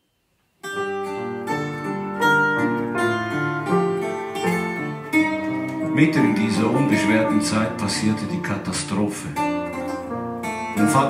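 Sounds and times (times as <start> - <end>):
mandolin playing lively melody: 0.7 - 11.0.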